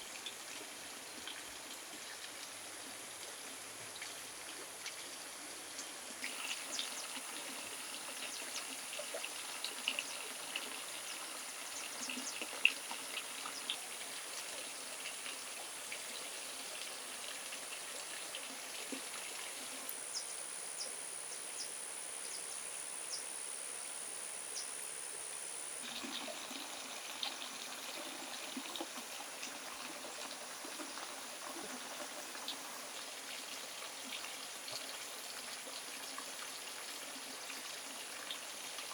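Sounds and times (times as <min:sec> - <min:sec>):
water trickling: 0:00.0 - 0:20.9, 0:25.7 - 0:38.9.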